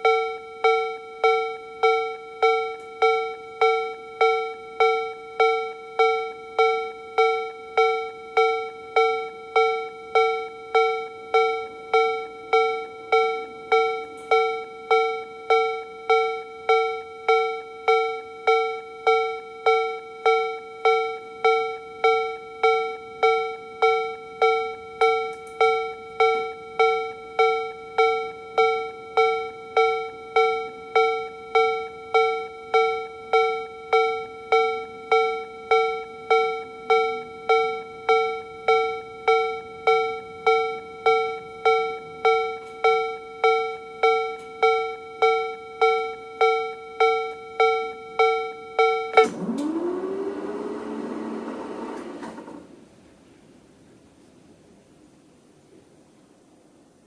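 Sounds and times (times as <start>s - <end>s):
level crossing bell-like alarm: 0.0s - 51.4s.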